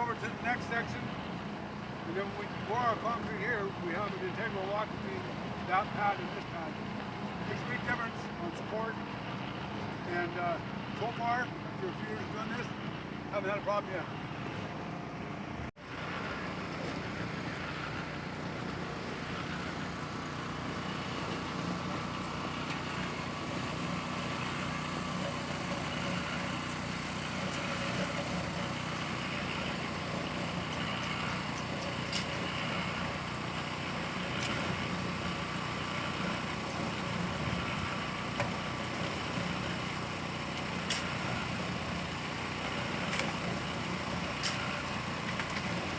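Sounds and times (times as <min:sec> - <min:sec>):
generator and cement mixers running: 0:00.0 - 0:45.9.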